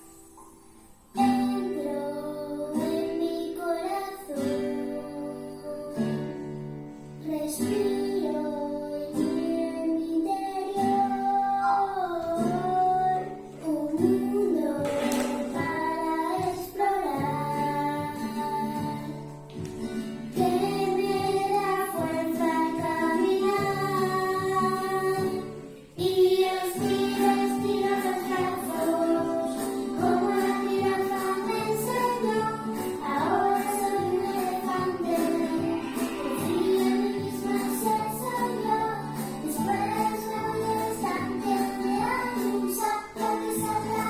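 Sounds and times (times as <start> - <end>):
children's song with sung vocals: 0.0 - 44.0.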